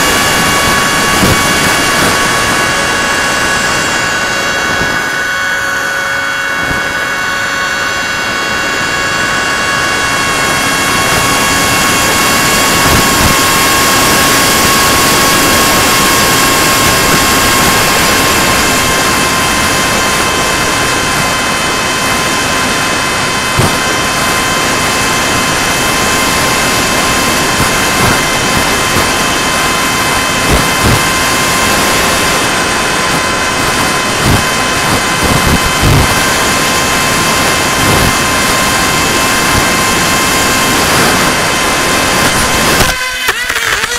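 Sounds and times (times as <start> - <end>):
rushing airflow: 0.0 - 42.9
wind buffeting microphone: 0.0 - 42.9
electric motor whine: 0.0 - 43.9.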